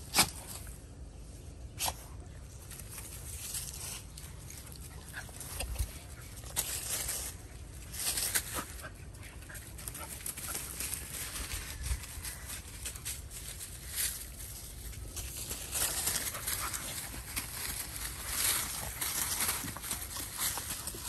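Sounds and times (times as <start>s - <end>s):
rustling in dry leaves: 0.0s - 21.0s.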